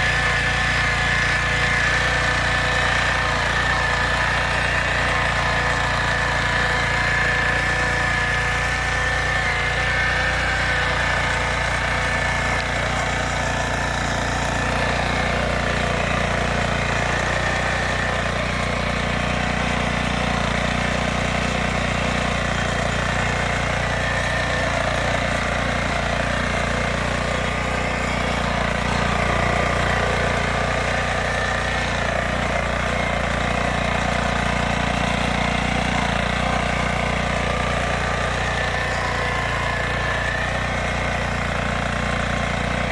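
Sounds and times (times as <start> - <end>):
tiller engine running: 0.0 - 42.9.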